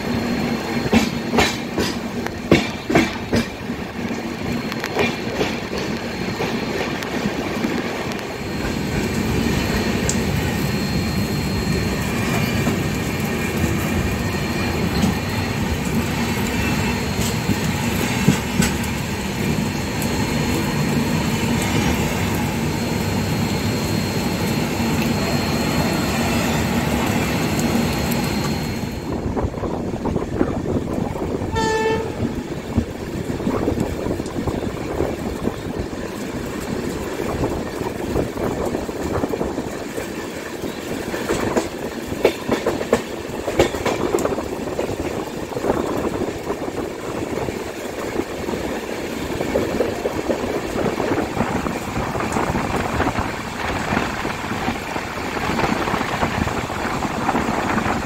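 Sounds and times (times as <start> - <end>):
train clickety-clack over rail joints: 0.0 - 23.5, 24.2 - 58.0
train rolling rumble: 0.0 - 58.0.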